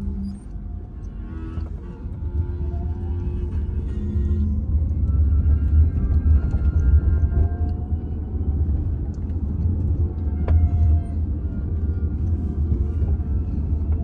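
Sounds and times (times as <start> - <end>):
road and tyre rumble: 0.0 - 14.0.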